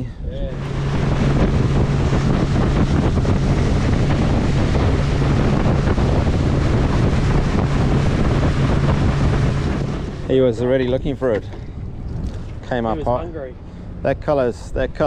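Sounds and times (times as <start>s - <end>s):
boat motor running: 0.0s - 15.0s
wind rushing over microphone: 0.0s - 15.0s.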